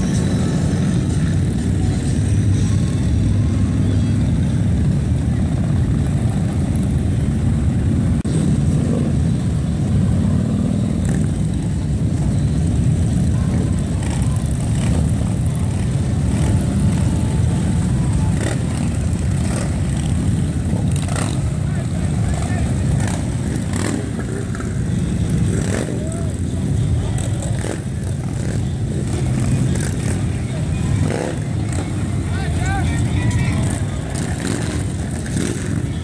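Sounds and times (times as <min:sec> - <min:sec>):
motorcycles riding past: 0:00.0 - 0:36.0.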